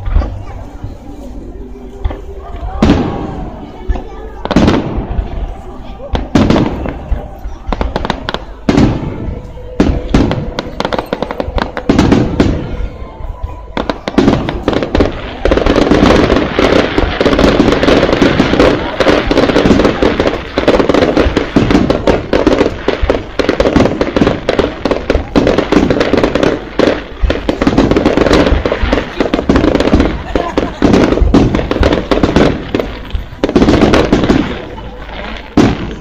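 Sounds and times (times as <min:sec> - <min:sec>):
fireworks crackling and banging: 0:00.0 - 0:36.0.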